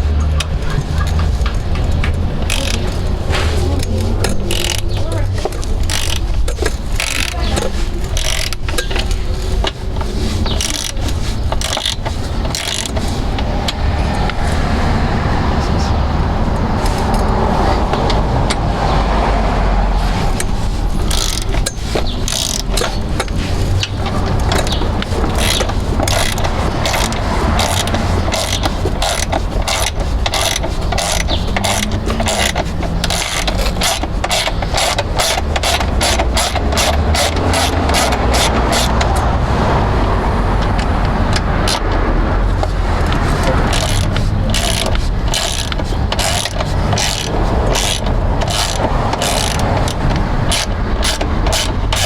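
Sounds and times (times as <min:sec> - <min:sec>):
steady low rumble: 0:00.0 - 0:52.0
ratchet clicking: 0:00.2 - 0:15.1, 0:20.2 - 0:39.4, 0:40.6 - 0:52.0.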